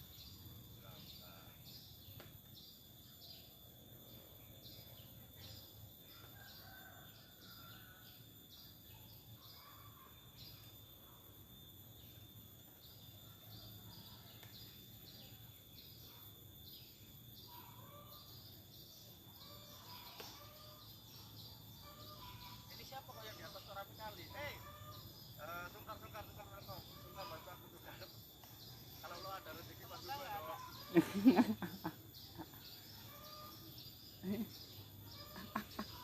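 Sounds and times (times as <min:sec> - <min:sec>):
insects chirping: 0:00.0 - 0:36.0.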